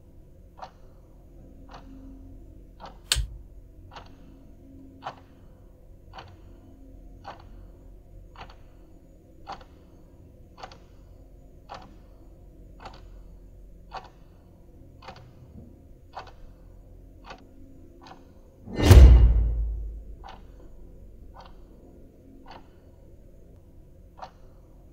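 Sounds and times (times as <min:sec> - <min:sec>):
faint steady hum: 0:00.0 - 0:24.9
clock ticking: 0:00.5 - 0:01.0, 0:01.6 - 0:11.0, 0:11.6 - 0:14.4, 0:15.0 - 0:16.6, 0:17.2 - 0:23.0, 0:24.1 - 0:24.9.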